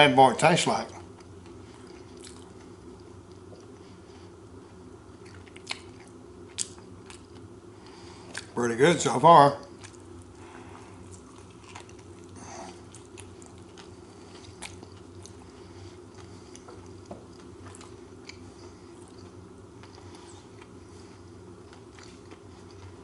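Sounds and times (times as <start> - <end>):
steady low hum: 0.0 - 23.0
person chewing crispy food: 1.0 - 3.9, 4.6 - 8.6, 9.7 - 23.0.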